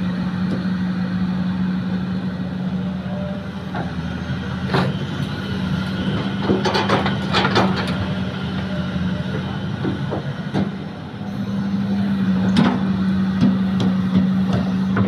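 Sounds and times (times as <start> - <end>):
heavy diesel engine humming: 0.0 - 15.0.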